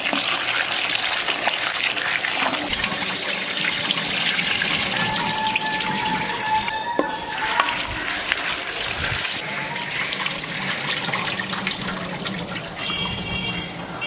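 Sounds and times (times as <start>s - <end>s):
tap water running into a bowl: 0.0s - 14.0s.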